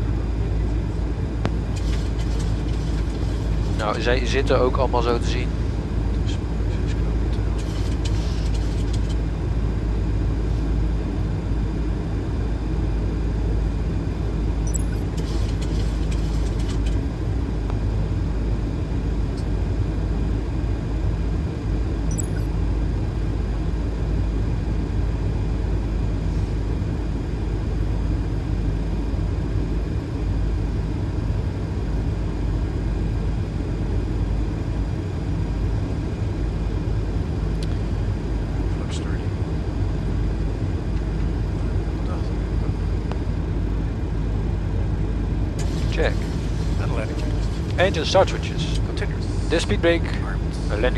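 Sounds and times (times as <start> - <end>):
aircraft engine drone: 0.0 - 50.9.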